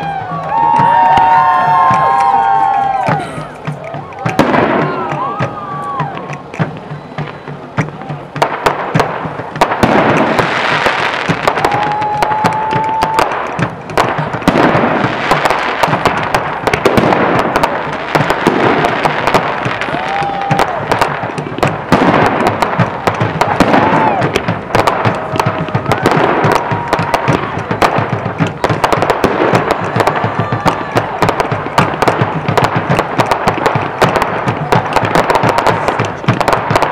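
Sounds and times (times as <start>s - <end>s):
fireworks bangs: 0.0s - 36.9s
fireworks crackling and popping: 0.0s - 36.9s.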